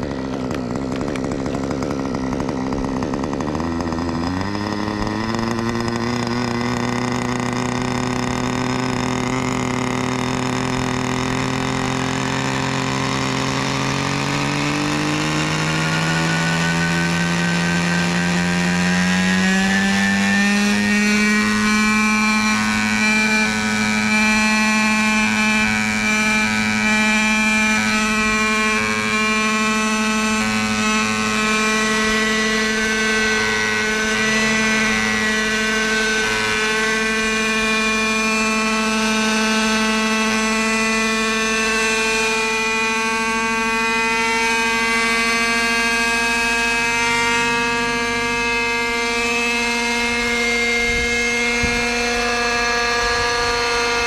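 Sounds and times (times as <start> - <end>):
model helicopter engine spooling up: 0.0 - 54.0.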